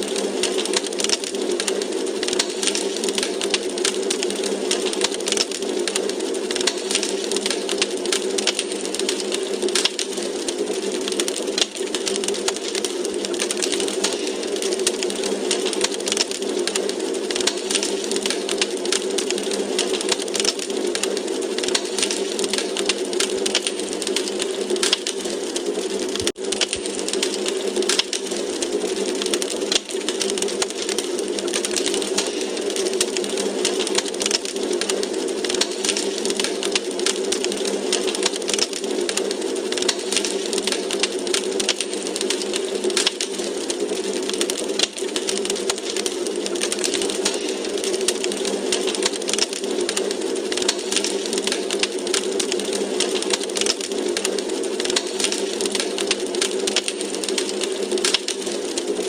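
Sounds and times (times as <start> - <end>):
fire pops and snaps: 0.0 - 59.0
hiss of flames: 0.0 - 59.0.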